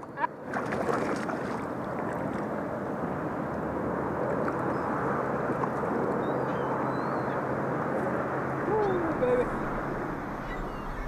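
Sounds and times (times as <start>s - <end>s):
steady outdoor rushing noise: 0.0s - 11.0s.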